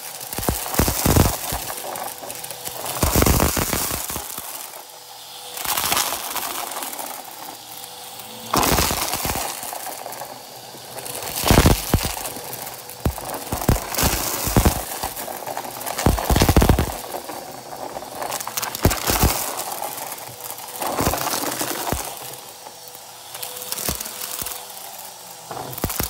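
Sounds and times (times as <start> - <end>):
plastic beads rattling in vacuum: 0.0 - 26.0
vacuum cleaner motor hum: 0.0 - 26.0.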